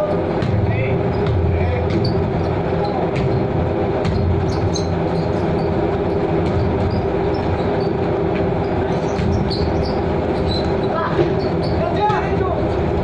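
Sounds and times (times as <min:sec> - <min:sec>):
ship engines droning: 0:00.0 - 0:13.0
basketball bouncing: 0:00.3 - 0:12.4
shoe squeaks: 0:00.9 - 0:12.4.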